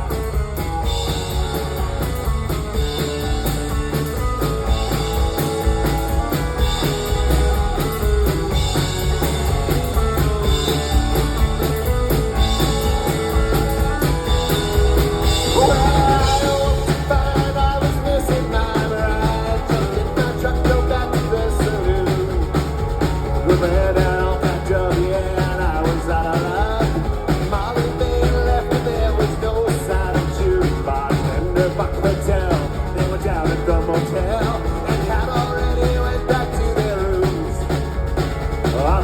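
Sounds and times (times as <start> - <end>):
bending lead guitar line: 0.0 - 39.0
drum kit: 0.0 - 39.0
heavy bass line: 0.0 - 39.0.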